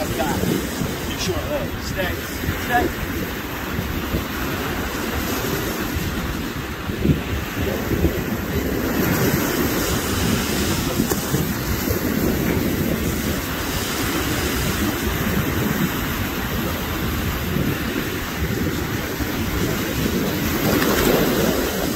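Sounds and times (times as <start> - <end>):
surf on a beach: 0.0 - 21.9
wind rumbling on microphone: 0.0 - 21.9.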